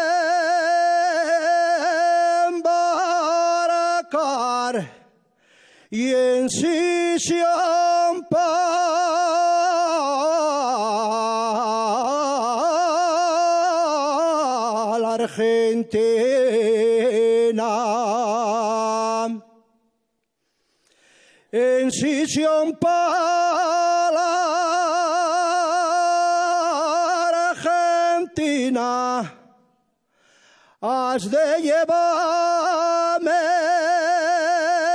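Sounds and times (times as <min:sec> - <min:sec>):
man singing unaccompanied: 0:00.0 - 0:05.2, 0:05.9 - 0:19.6, 0:21.5 - 0:29.7, 0:30.8 - 0:34.9.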